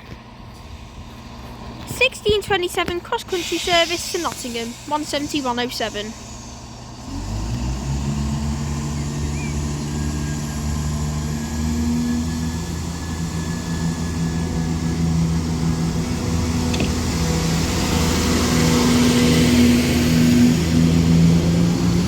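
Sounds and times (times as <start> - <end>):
train diesel engines droning: 0.0 - 22.0.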